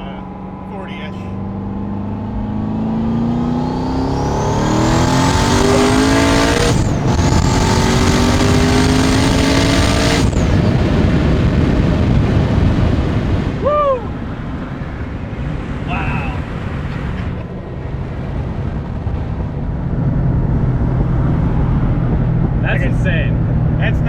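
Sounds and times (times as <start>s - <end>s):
car engine at full throttle: 0.0s - 24.0s
wind and road noise: 0.0s - 24.0s.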